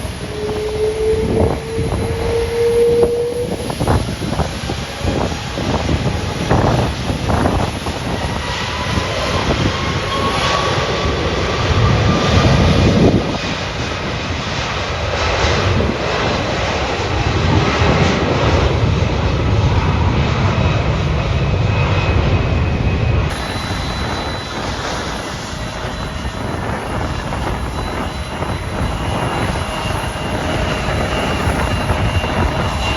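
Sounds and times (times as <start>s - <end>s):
jet engines rumbling with whine: 0.0s - 32.9s.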